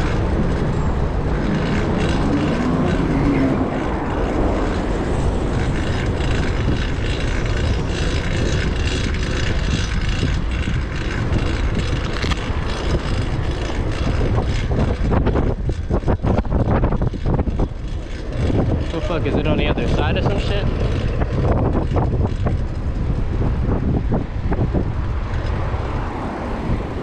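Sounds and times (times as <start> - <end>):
road noise: 0.0 - 27.0
wind rushing over microphone: 0.0 - 27.0.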